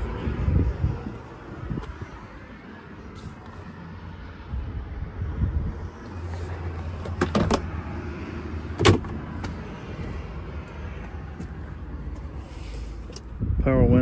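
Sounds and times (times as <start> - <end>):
diesel engine humming: 0.0 - 13.7.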